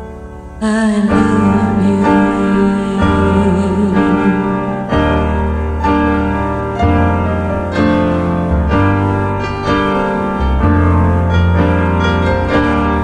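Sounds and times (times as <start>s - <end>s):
piano chords: 0.0s - 13.0s
bass line: 0.6s - 13.0s.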